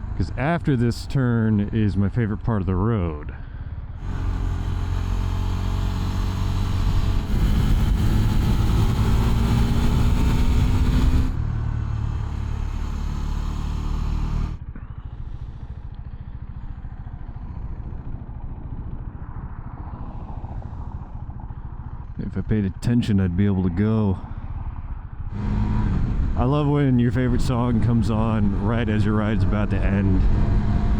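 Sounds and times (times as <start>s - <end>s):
motorcycle engine accelerating: 3.4s - 30.9s.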